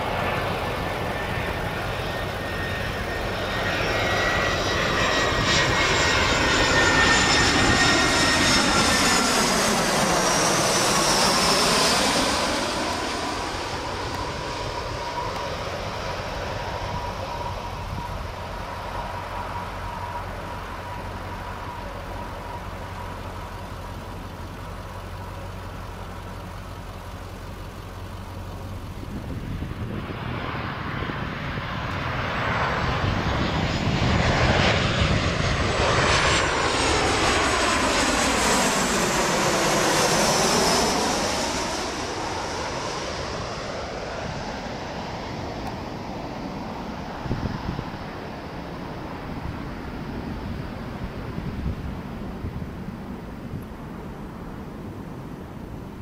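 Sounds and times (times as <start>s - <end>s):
airliner engine whine passing overhead: 0.0s - 56.0s.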